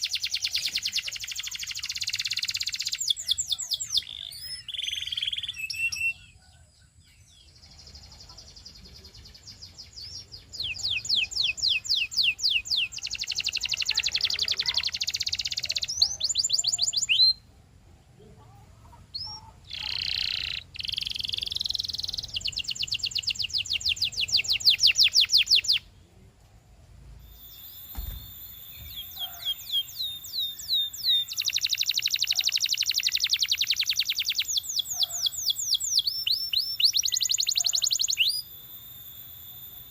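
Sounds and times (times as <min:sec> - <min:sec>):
canary singing: 0:00.0 - 0:17.5, 0:18.4 - 0:25.9, 0:27.2 - 0:39.9.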